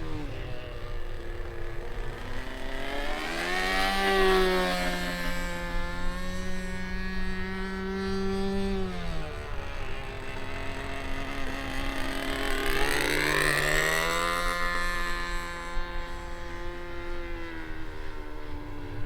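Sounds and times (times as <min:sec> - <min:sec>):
model plane engine running: 0:00.0 - 0:19.0.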